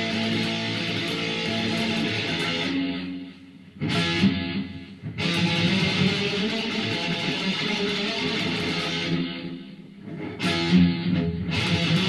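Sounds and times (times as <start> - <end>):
electric guitar through amplifier: 0.0 - 12.0.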